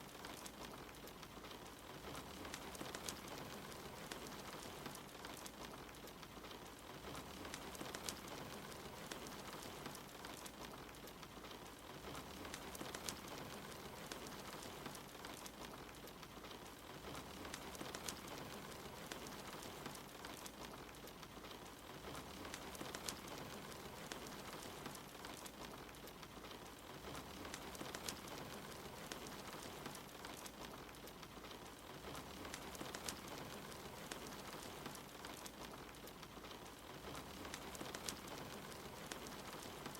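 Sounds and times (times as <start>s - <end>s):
soft rain: 0.0s - 39.9s
wood fire crackling and popping: 0.0s - 39.9s.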